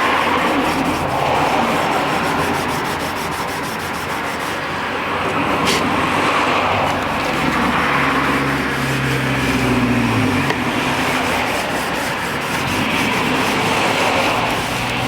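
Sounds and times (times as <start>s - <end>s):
scrubbing model railway track: 0.0s - 15.0s.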